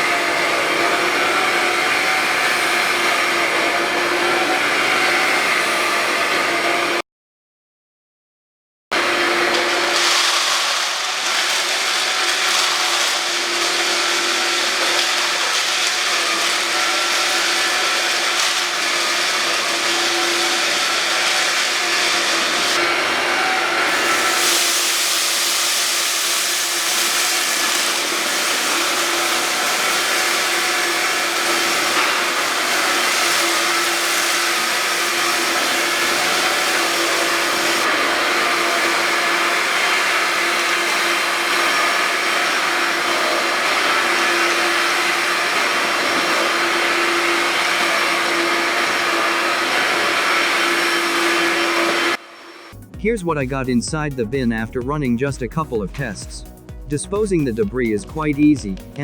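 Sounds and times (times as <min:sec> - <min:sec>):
vacuum cleaner running: 0:00.0 - 0:07.0, 0:08.9 - 0:53.0.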